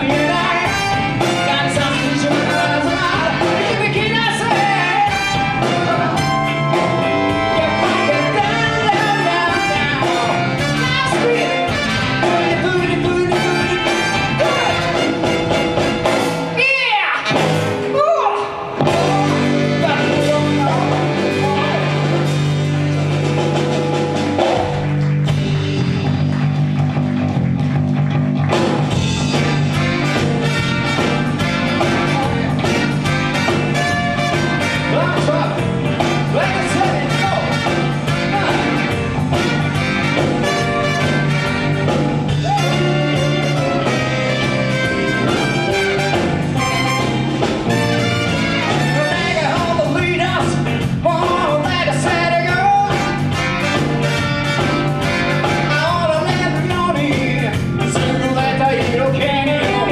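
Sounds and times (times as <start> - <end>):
drums: 0.0 - 59.9
live band playing: 0.0 - 59.9.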